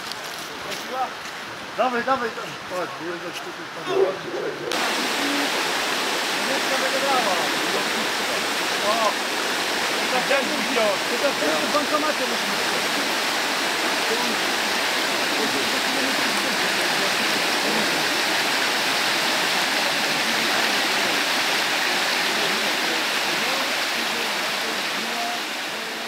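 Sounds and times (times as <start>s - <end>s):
river rushing over rapids: 0.0s - 26.0s.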